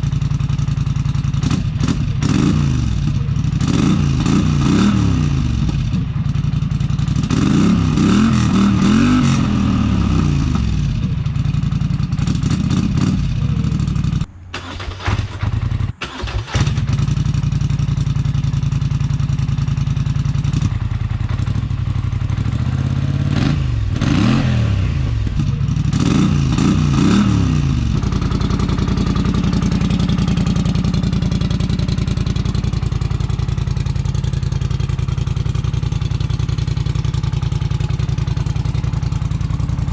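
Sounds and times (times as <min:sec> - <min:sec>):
atv engine idling and revving: 0:00.0 - 0:39.9.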